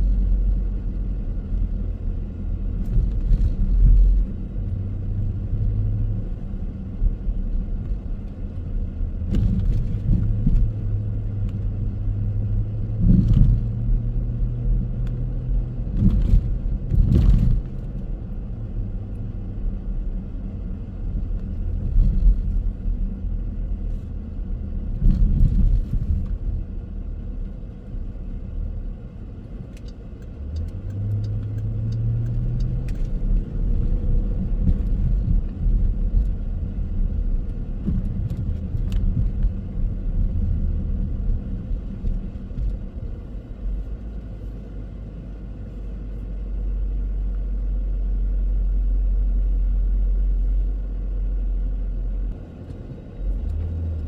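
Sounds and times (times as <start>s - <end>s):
car engine hum: 0.0s - 54.0s
road rumble: 0.0s - 54.0s.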